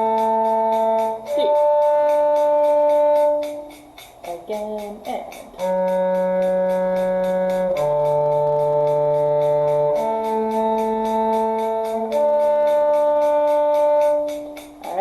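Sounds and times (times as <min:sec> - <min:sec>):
held string instrument notes: 0:00.0 - 0:15.0.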